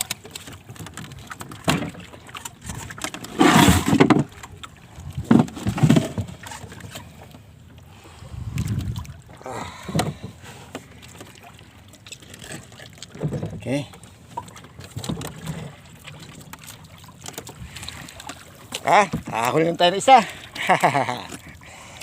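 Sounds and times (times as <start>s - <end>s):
water splashing against boat: 0.0s - 22.0s.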